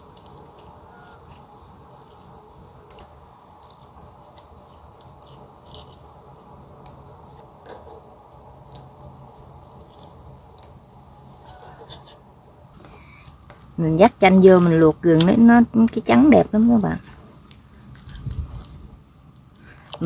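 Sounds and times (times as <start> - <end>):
gas burner hum: 0.0 - 20.0.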